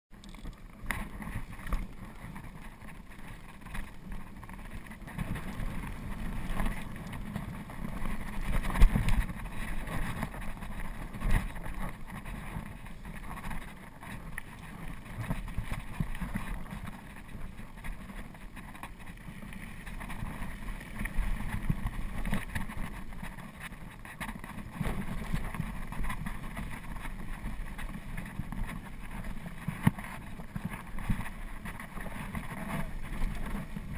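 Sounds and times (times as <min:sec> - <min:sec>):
bike knocking and rattling: 0:00.1 - 0:33.9
bike tyres rolling over dirt: 0:00.1 - 0:33.9.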